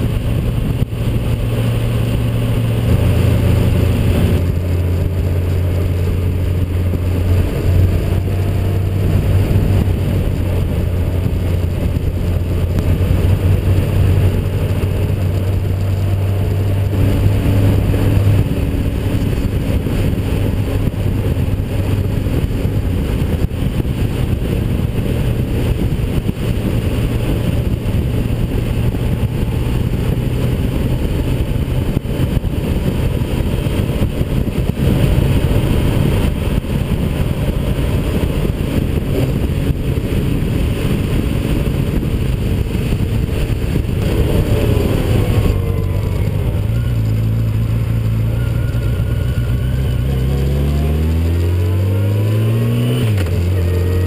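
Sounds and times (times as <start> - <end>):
motorcycle engine cruising: 0.0 - 54.0
wind noise: 0.0 - 54.0.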